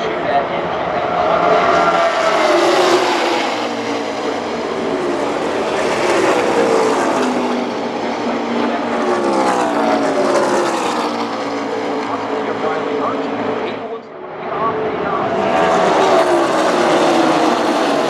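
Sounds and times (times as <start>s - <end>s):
stock cars racing past: 0.0s - 18.0s.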